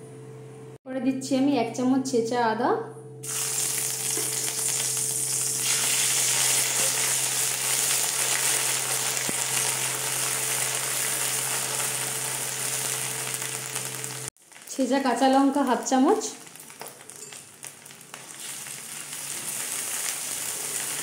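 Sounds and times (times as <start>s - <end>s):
ginger sizzling in oil: 3.2s - 21.0s.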